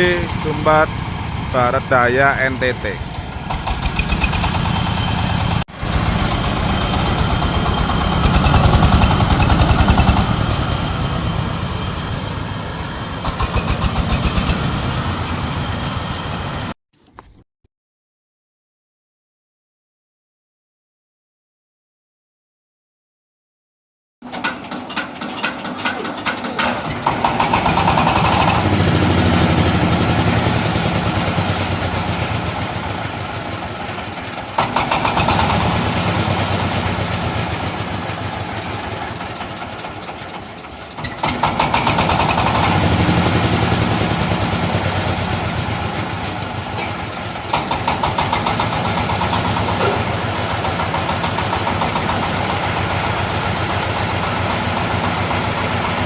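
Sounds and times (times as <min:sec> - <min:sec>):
engine surging: 0:00.0 - 0:16.8, 0:26.2 - 0:56.0.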